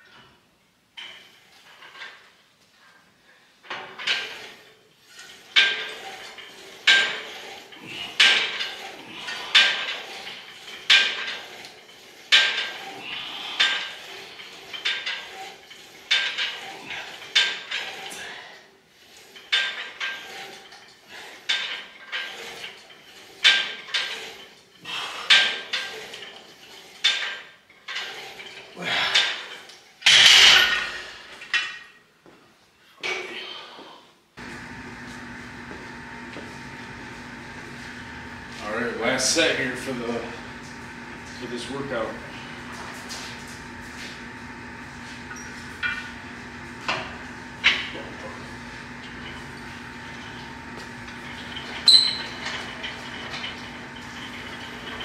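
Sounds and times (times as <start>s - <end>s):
weight plates clanking: 5.2s - 32.0s, 34.4s - 55.0s
weight stack clattering down: 5.3s - 18.5s, 19.2s - 31.9s, 34.4s - 55.0s.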